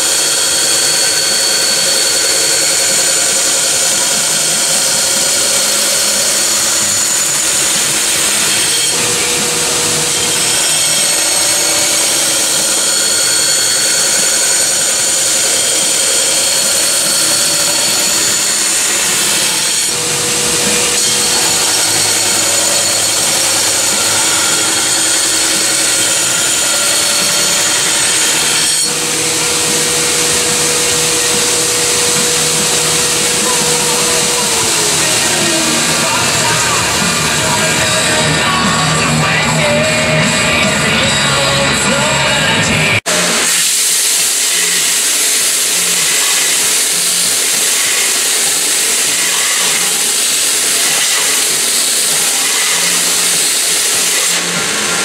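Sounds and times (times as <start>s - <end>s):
belt grinder grinding blade: 0.0s - 55.0s.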